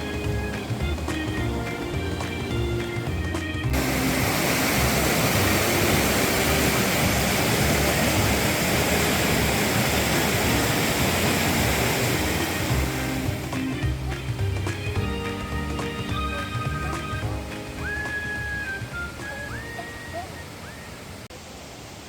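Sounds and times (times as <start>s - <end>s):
water running over rocks: 0.0s - 22.0s.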